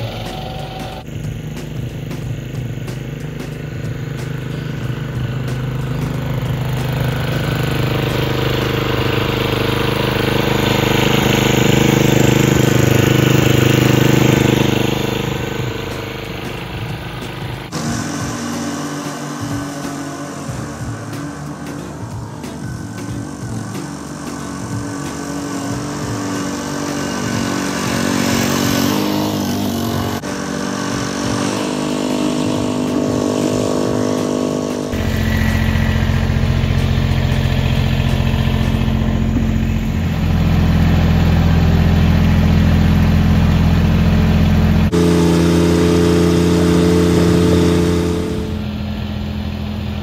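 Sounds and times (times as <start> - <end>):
reel mower running: 0.0 - 50.0
tractor engine running: 0.0 - 50.0.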